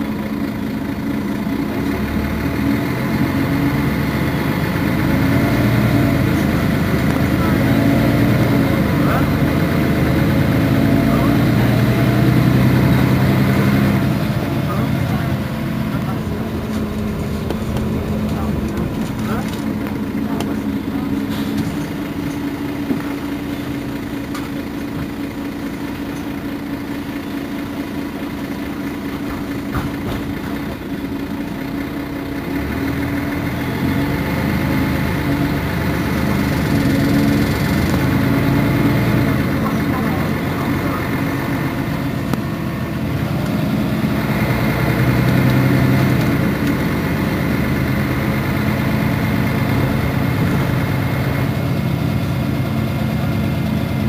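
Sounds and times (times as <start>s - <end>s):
bus engine idling and revving: 0.0s - 54.0s.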